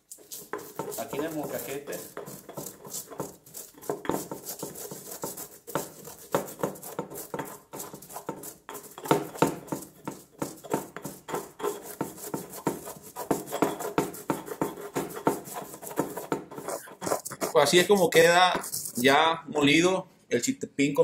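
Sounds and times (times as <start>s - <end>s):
stone pestle grinding in mortar: 0.0s - 19.2s.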